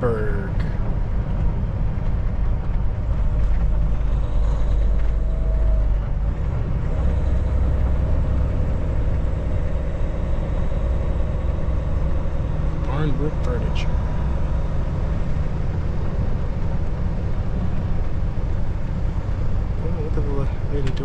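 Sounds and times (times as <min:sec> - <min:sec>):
diesel engine low rumble: 0:00.0 - 0:21.0
road noise: 0:00.0 - 0:21.0.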